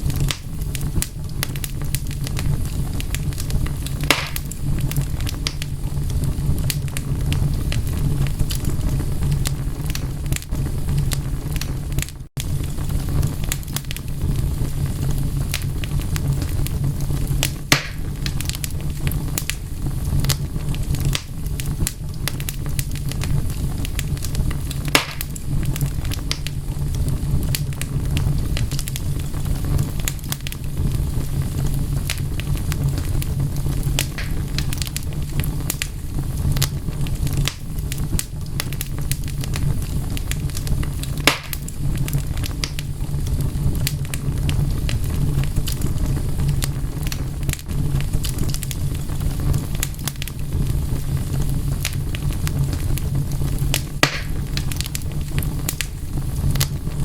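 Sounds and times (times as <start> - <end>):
fire popping: 0.0 - 57.0
wood fire crackling: 0.0 - 57.0.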